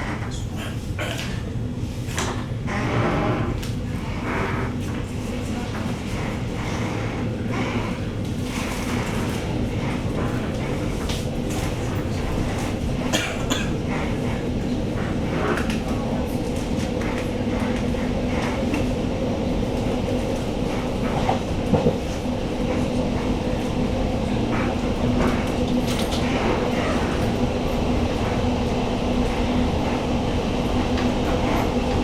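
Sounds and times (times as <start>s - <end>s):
electric train hum: 0.0s - 32.0s.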